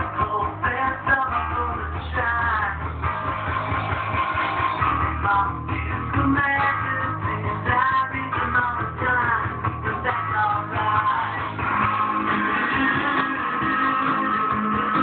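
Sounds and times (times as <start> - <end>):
rock and roll record playing: 0.0 - 15.0.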